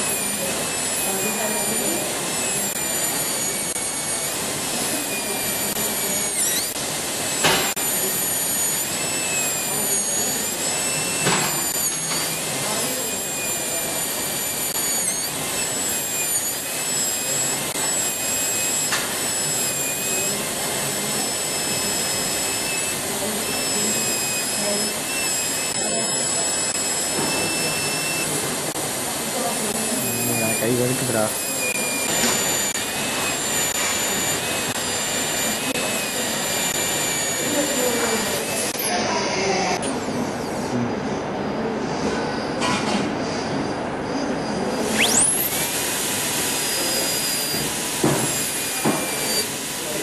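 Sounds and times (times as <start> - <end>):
dental drill whine: 0.0 - 41.3, 42.0 - 50.0.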